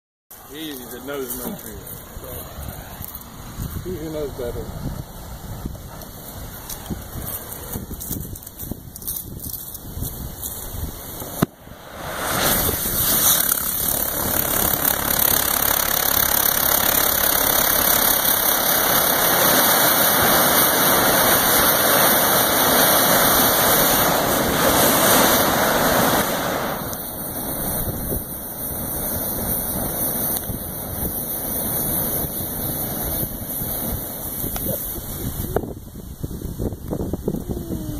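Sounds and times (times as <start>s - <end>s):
propellant burning with rushing hiss: 0.3s - 37.9s.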